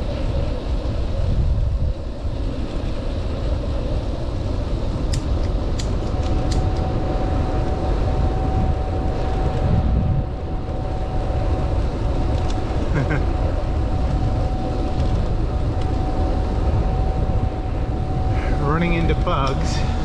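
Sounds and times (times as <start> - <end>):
bicycle tyre rumble: 0.0 - 20.0
thin steady whine: 0.0 - 20.0
wind rushing over microphone: 0.0 - 20.0.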